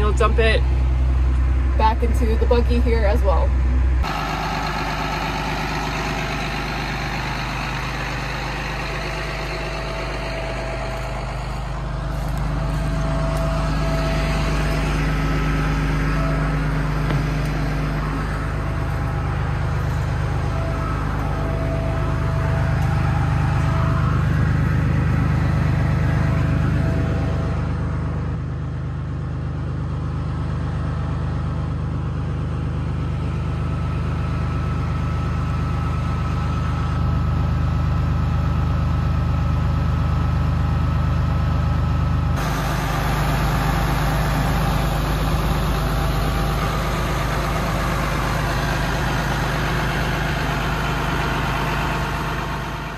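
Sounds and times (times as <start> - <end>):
faint engine whine: 0.0 - 52.9
tractor engine drone: 0.0 - 52.9.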